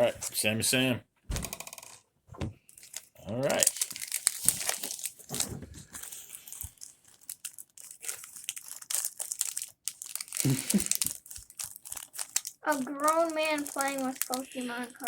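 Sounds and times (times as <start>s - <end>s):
foil wrapper tearing and crinkling: 2.7s - 15.0s.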